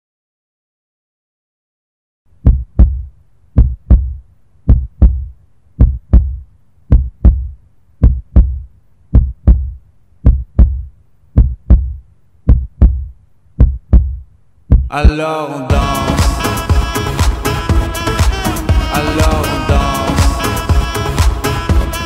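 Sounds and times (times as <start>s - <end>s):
heartbeat thumps: 2.4s - 22.0s.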